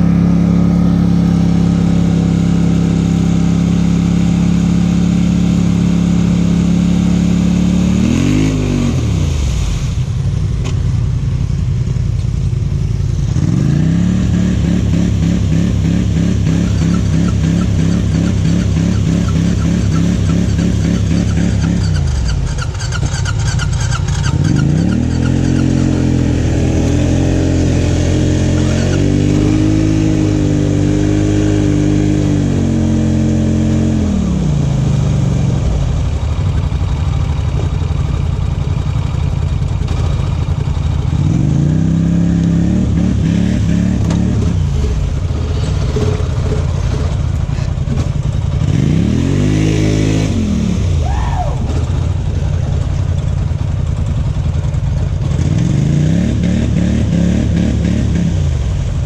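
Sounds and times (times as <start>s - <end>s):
off-road vehicle engine revving: 0.0s - 10.0s, 13.2s - 39.1s, 39.7s - 59.0s.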